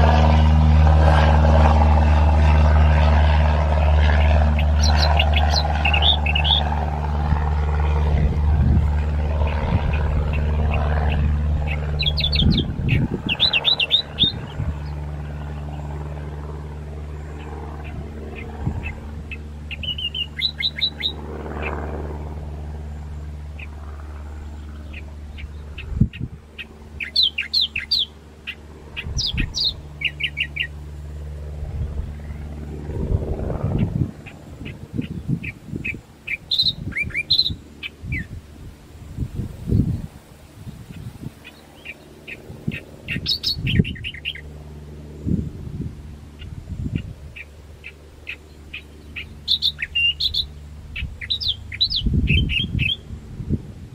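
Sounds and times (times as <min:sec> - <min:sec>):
propeller aircraft drone: 0:00.0 - 0:53.9
small birds chirping: 0:01.1 - 0:32.7, 0:33.6 - 0:38.4, 0:39.2 - 0:53.2.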